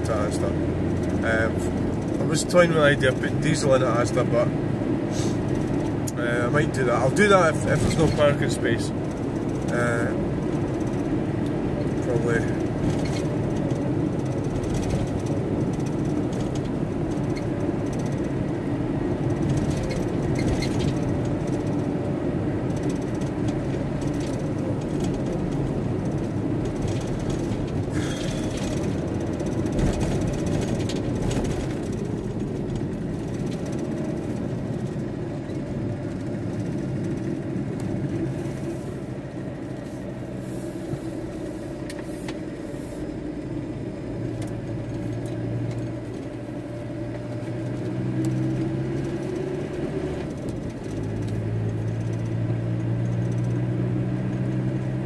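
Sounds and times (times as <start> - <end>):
road noise: 0.0 - 55.0
van engine rumble: 0.0 - 55.0.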